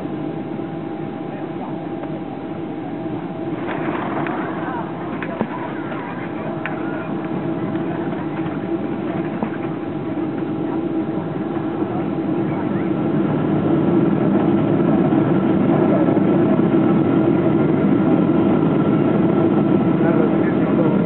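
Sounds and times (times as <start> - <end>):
jet engines in reverse thrust: 0.0 - 21.0.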